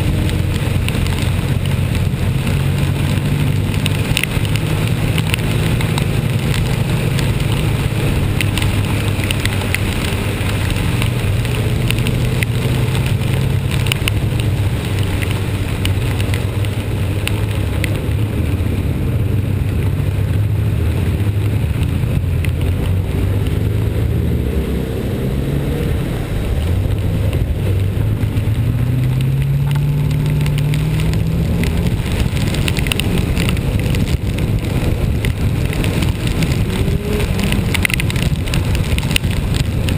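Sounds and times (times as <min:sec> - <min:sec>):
rain and wet road hiss: 0:00.0 - 0:39.9
vehicle engine running: 0:00.0 - 0:39.9.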